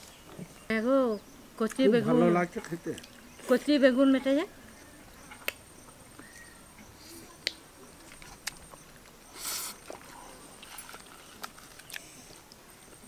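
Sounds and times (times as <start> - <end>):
people eating from steel plates: 1.6 - 13.0.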